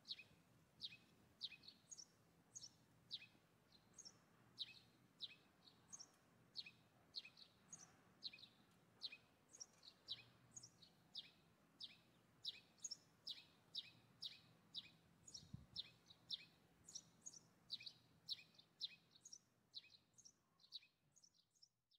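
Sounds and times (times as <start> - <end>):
faint bird chirping: 0.0 - 21.9.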